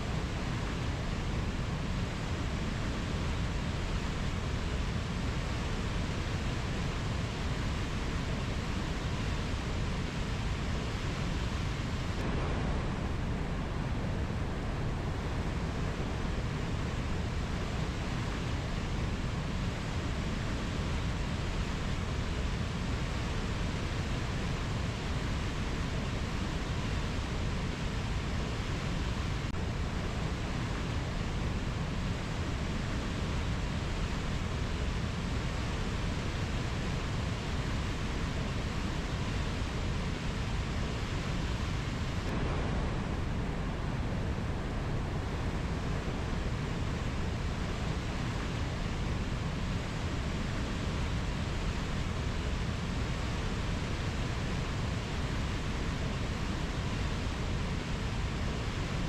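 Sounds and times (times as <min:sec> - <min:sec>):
rushing rainforest ambience: 0:00.0 - 0:59.0.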